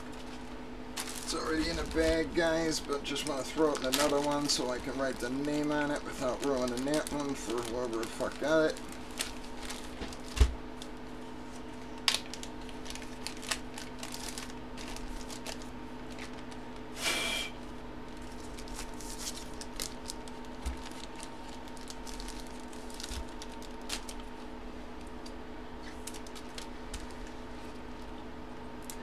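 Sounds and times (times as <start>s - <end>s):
card and plastic bag rustling: 0.0s - 16.9s, 18.1s - 25.2s, 25.8s - 28.1s
low electrical hum: 0.0s - 29.0s.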